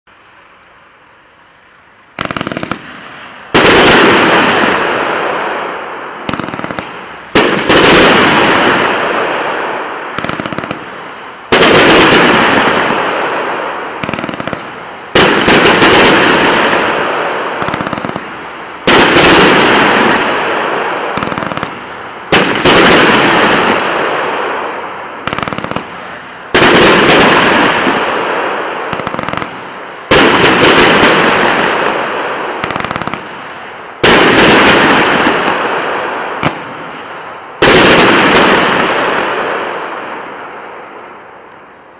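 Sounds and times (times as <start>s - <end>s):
firework loud reports: 0.2s - 41.9s.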